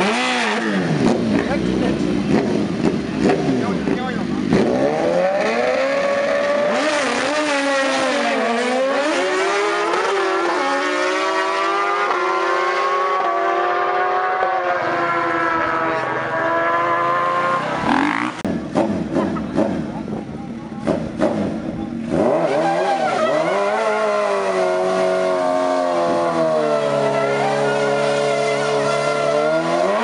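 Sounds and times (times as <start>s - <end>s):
motorcycle engines revving high: 0.0s - 30.0s.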